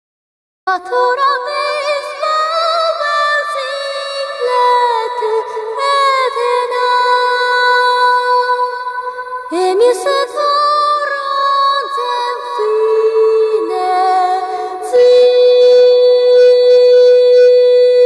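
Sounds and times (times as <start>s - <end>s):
woman singing over synthesized music: 0.7s - 18.0s.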